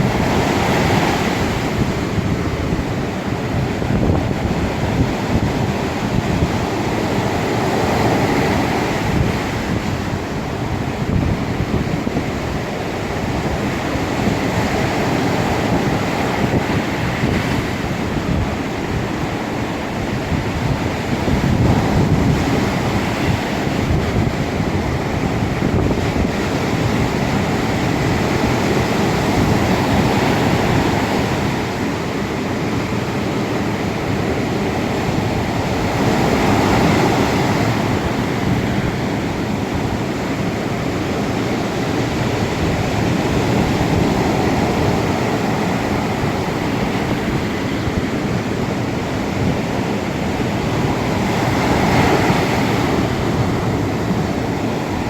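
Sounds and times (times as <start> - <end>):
ocean waves breaking: 0.0 - 55.0
wind buffeting microphone: 0.0 - 55.0.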